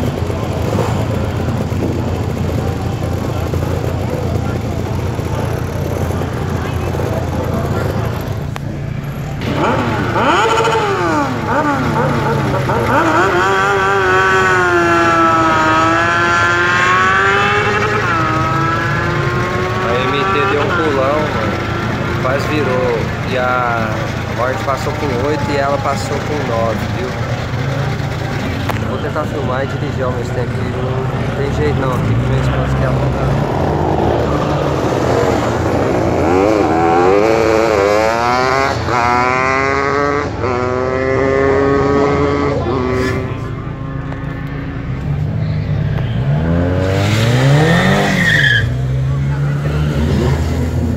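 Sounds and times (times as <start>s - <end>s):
motorcycle engine at high revs: 0.0s - 50.9s.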